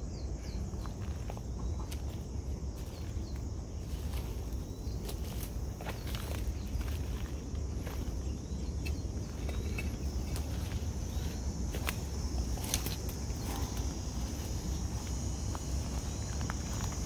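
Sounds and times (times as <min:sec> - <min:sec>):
insects buzzing: 0:00.0 - 0:17.0
footsteps on dry leaves: 0:00.8 - 0:17.0.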